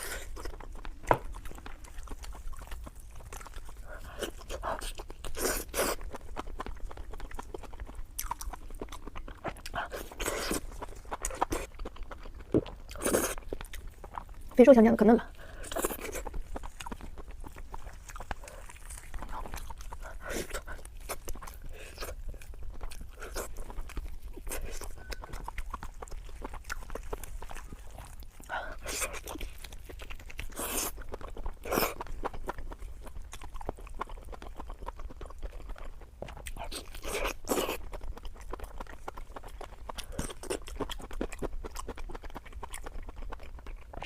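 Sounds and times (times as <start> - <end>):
wet chewing and smacking: 0.0 - 44.0.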